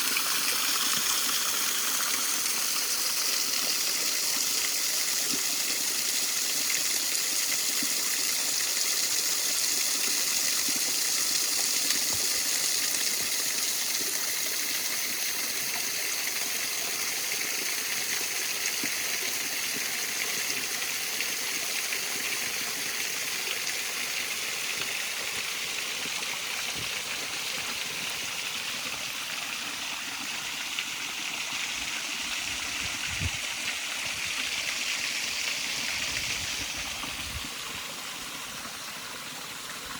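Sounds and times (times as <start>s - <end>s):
water pouring down waterfall: 0.0s - 39.9s.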